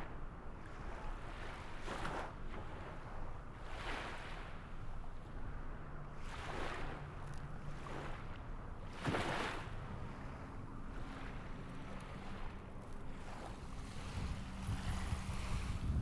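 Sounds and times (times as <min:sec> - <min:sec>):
rushing wind: 0:00.0 - 0:16.0
water noise: 0:00.0 - 0:16.0.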